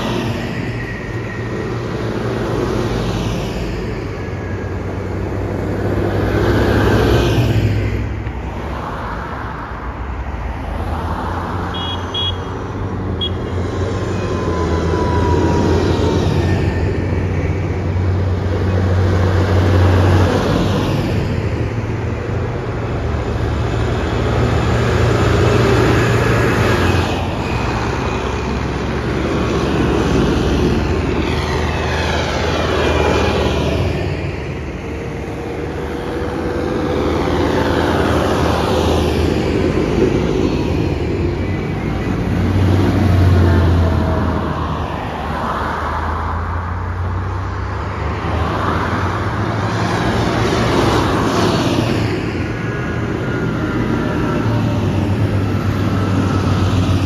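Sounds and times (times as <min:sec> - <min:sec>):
tractor engines passing: 0:00.0 - 0:57.0
tyres on wet road: 0:00.0 - 0:57.0.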